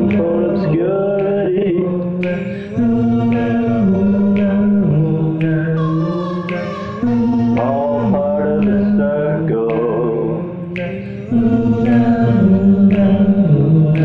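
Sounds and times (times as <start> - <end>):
a cappella harmony singing: 0.0 - 14.0.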